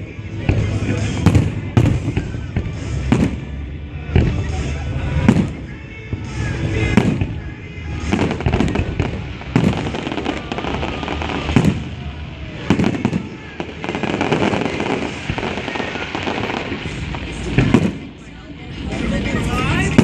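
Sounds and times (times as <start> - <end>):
fireworks booms: 0.0 - 20.0
fireworks crackling and rumbling: 0.0 - 20.0.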